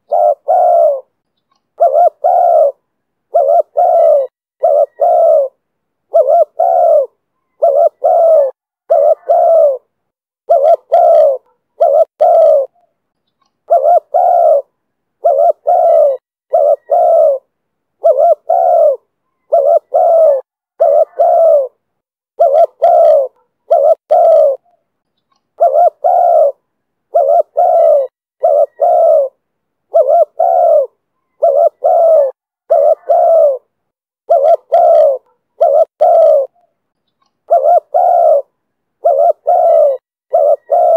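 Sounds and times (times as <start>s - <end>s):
dove cooing: 0.0s - 1.1s, 1.8s - 12.8s, 13.7s - 24.8s, 25.6s - 36.7s, 37.5s - 40.9s.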